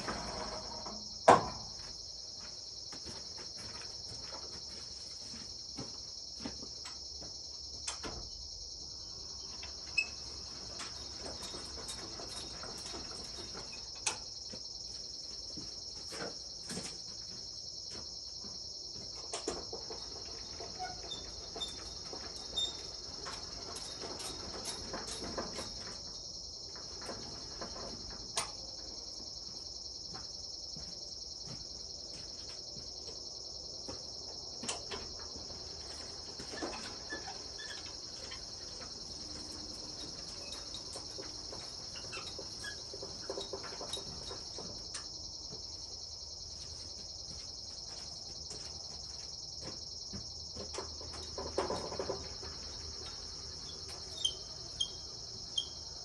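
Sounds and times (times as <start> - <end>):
insect chorus trilling: 0.0 - 56.0.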